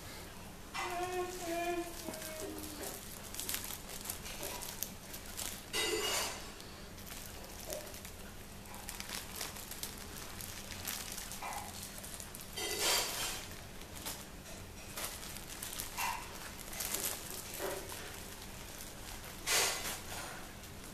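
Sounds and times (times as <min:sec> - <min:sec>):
plastic bags crinkling: 0:00.8 - 0:20.9.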